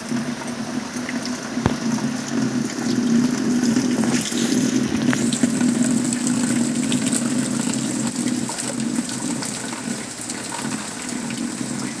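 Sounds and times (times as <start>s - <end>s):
heavy rain falling: 0.0s - 12.0s
running water rushing: 0.0s - 12.0s.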